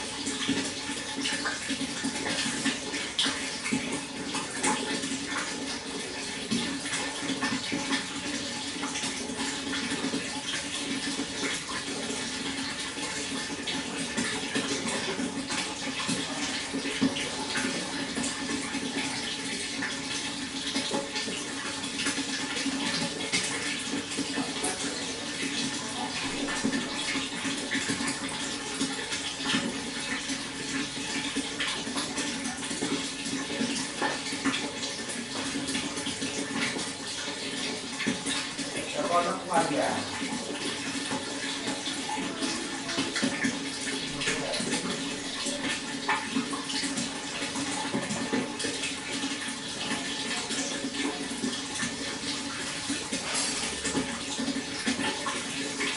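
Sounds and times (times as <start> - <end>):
water running: 0.0 - 55.9.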